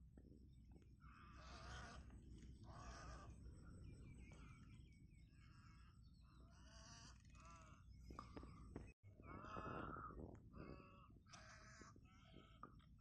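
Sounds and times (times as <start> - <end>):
birds giving harsh calls: 1.0 - 12.6.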